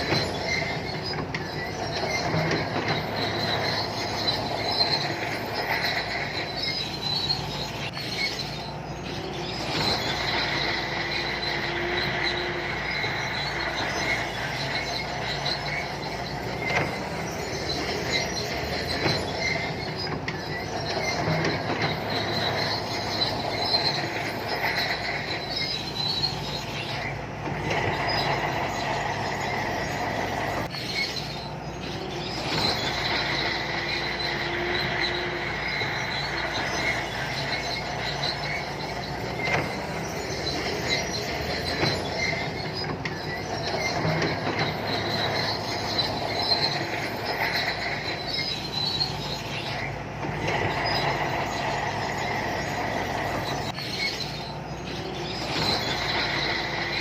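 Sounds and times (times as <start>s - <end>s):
diesel engine drone: 0.0s - 57.0s
steel tracks squealing and clanking: 0.0s - 57.0s.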